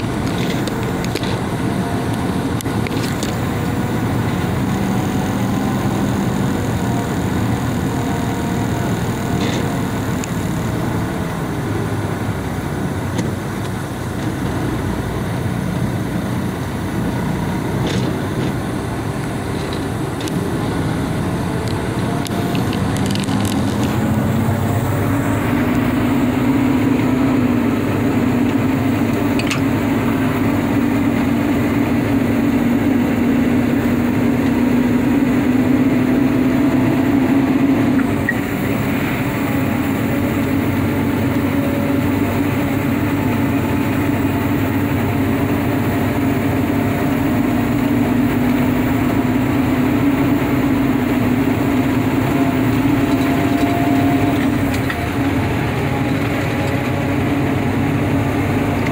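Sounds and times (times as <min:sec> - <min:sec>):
vehicle engine and road noise: 0:00.0 - 0:58.9.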